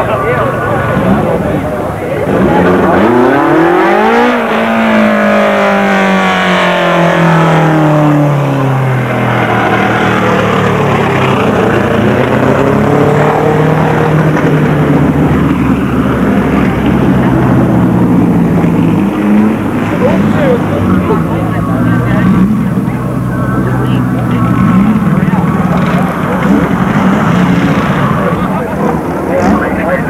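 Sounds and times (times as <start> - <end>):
rally car engines running hard: 0.0 - 30.0.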